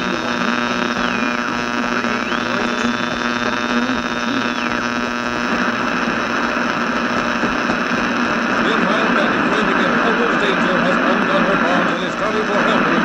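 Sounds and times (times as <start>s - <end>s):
radio static hiss: 0.0s - 13.0s
steady hum: 0.0s - 13.0s.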